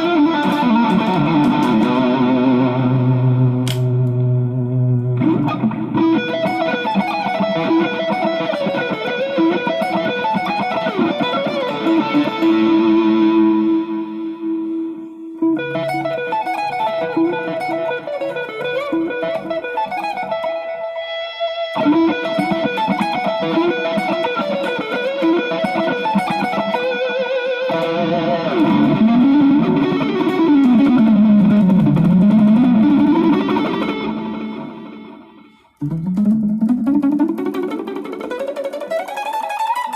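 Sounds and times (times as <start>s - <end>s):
electric guitar lead lines: 0.0s - 39.9s.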